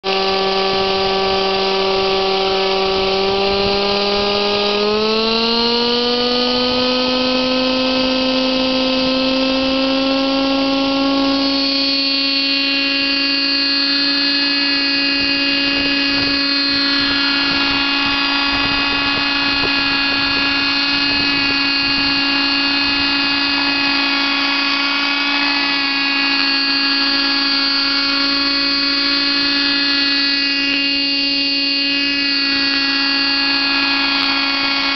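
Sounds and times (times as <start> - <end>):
model helicopter engine whine: 0.0 - 34.9.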